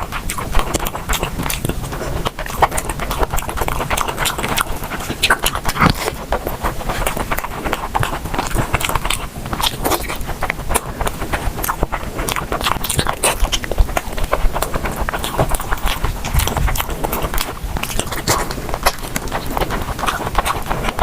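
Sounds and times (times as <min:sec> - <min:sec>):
person chewing and biting food: 0:00.0 - 0:21.0
wet mouth clicks and crunches: 0:00.0 - 0:21.0.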